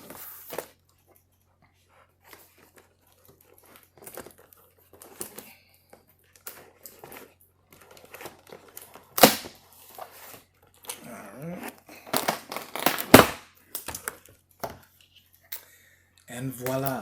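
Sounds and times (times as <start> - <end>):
cardboard and paper rustling: 0.0 - 15.4.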